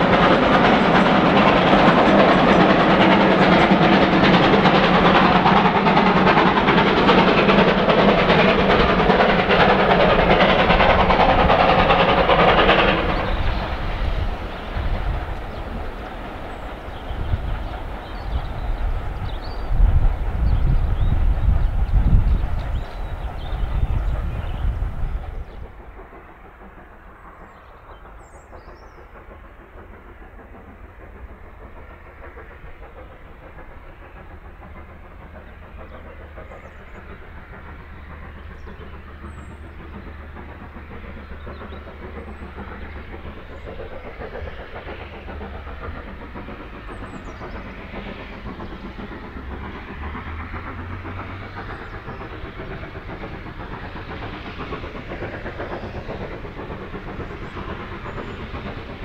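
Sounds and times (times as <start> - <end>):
rumble of train wheels: 0.0 - 59.0
steam locomotive exhaust: 0.0 - 59.0.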